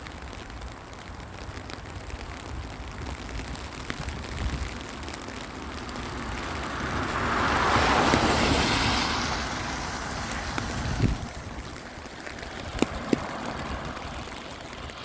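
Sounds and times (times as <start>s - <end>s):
steady rainfall: 0.0s - 15.0s
vehicle tyres hissing on wet road: 0.0s - 15.0s.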